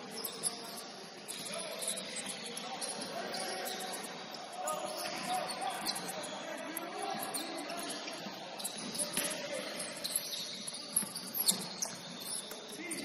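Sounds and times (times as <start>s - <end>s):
echoing gym noise: 0.0s - 13.0s
sneakers squeaking on court: 0.0s - 13.0s.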